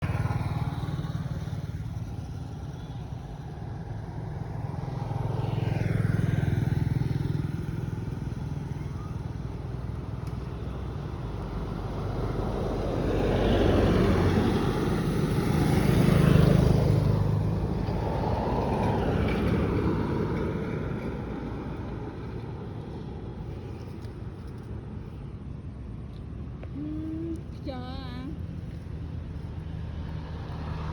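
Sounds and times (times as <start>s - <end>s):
vehicles passing rumble: 0.0s - 30.9s.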